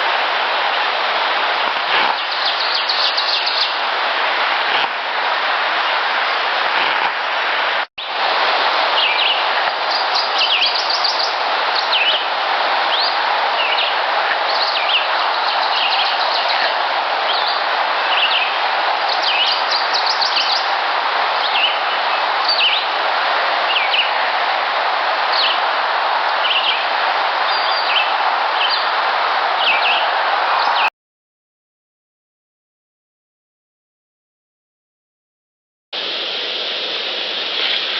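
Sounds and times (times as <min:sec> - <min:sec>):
steady recording hiss: 0:00.0 - 0:30.8, 0:36.0 - 0:37.9.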